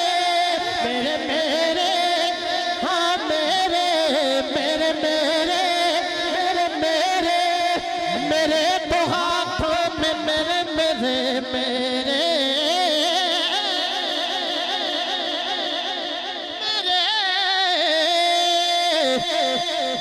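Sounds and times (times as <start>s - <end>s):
man singing long held notes: 0.0s - 20.0s.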